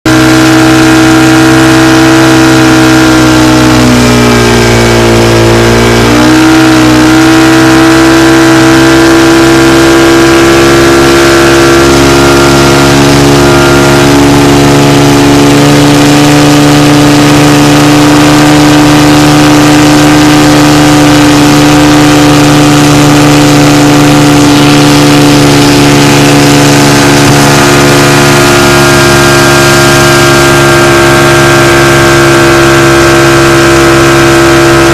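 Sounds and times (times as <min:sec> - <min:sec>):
motorboat engine running: 0:00.0 - 0:34.9.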